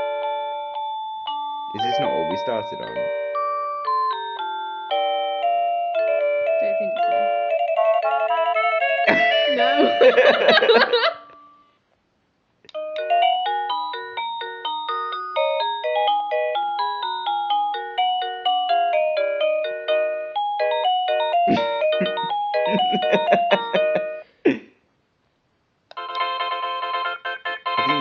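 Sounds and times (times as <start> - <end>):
electronic doorbell chime tune: 0.0 - 11.8, 12.8 - 24.3, 26.0 - 28.0.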